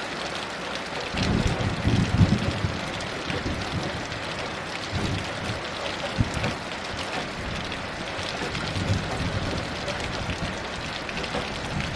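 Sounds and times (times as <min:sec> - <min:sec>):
heavy rain hissing: 0:00.0 - 0:11.9
distant thunder rumble: 0:01.1 - 0:11.9.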